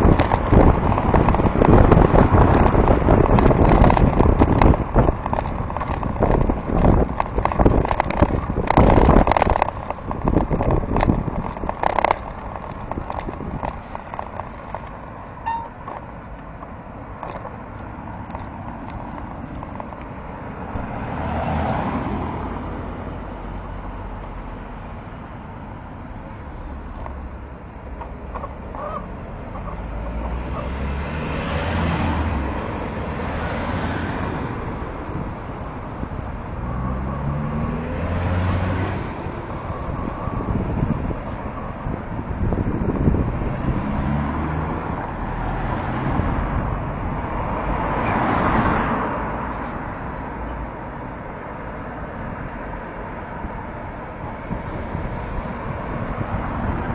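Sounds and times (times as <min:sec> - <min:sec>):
cars driving past: 0:00.0 - 0:25.3, 0:26.4 - 0:56.9.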